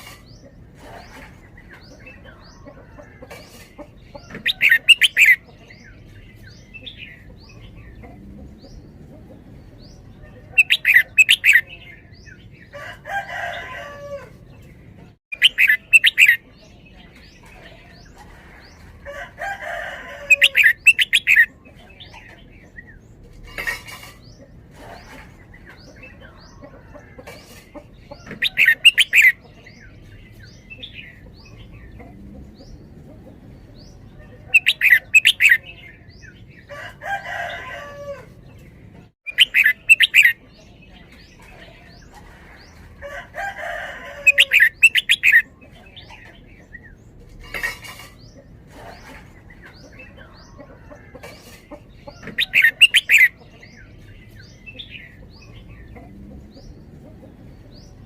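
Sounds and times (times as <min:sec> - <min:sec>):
bird song phrases: 0:00.0 - 0:58.0.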